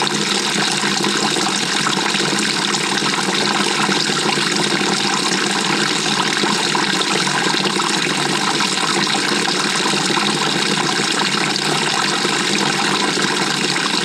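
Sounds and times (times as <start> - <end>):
water rushing in washing machine: 0.0 - 14.0.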